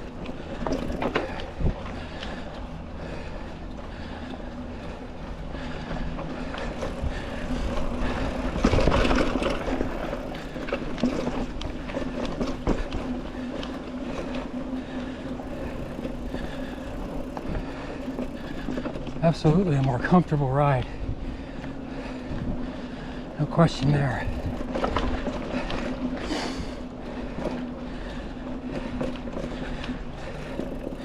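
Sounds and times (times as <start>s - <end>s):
bike chain and frame rattling: 0.0s - 31.0s
bike tyres on dirt: 0.0s - 31.0s.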